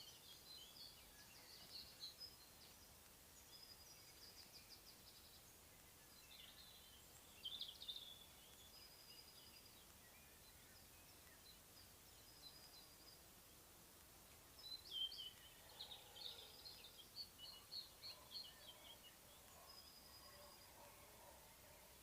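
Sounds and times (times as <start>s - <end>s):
faint lower-pitched birdsong: 0.0s - 22.0s
songbird chirping: 0.0s - 22.0s.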